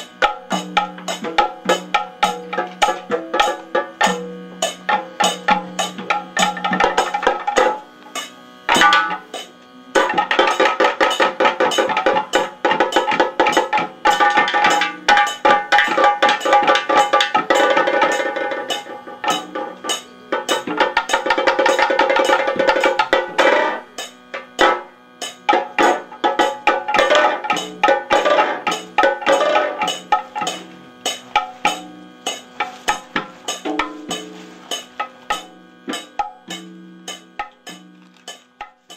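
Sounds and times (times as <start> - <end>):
fast dense drumming: 0.0 - 38.9.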